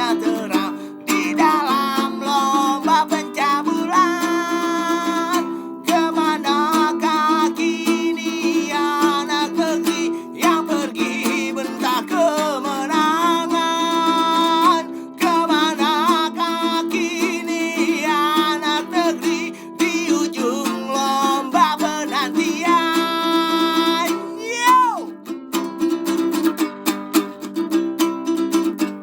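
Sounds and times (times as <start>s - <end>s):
wordless singing with vibrato: 0.0s - 25.2s
strummed ukulele: 0.0s - 29.0s.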